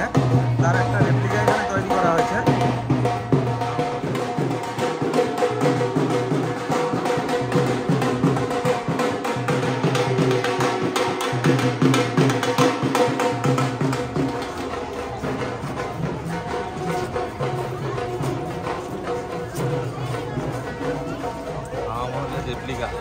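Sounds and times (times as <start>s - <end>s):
music with fast percussion: 0.0s - 23.0s.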